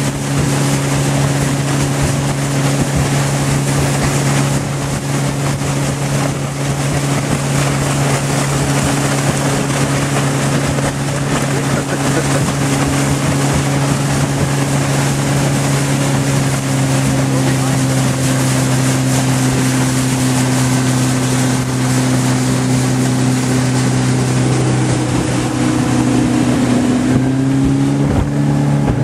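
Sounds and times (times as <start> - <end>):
outboard motors droning: 0.0 - 29.0
water rushing past hull: 0.0 - 29.0
wind buffeting microphone: 0.0 - 29.0.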